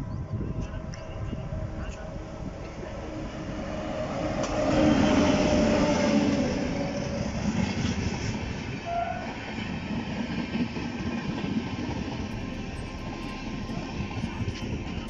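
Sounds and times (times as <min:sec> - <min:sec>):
train passing close by: 0:00.3 - 0:15.0
coach wheels rumbling: 0:02.0 - 0:15.0.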